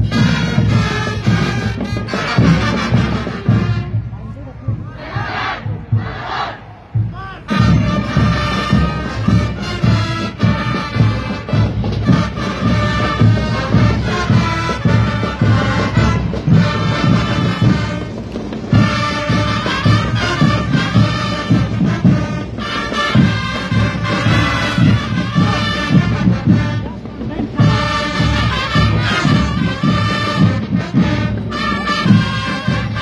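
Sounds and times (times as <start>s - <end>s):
brass band playing: 0.0s - 6.6s, 7.2s - 33.0s
drum beat: 0.0s - 33.0s.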